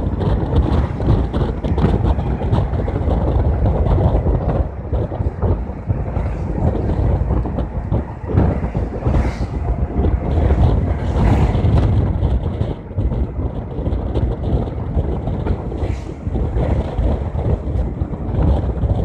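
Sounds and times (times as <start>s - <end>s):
bus rumbling at speed: 0.0s - 19.0s
passing traffic road noise: 0.0s - 19.0s
wind buffeting microphone: 0.0s - 19.0s.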